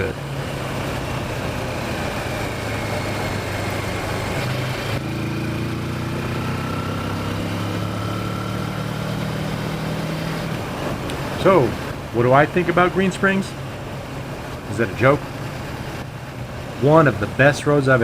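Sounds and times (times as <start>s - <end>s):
motorcycle engine running: 0.0s - 17.6s.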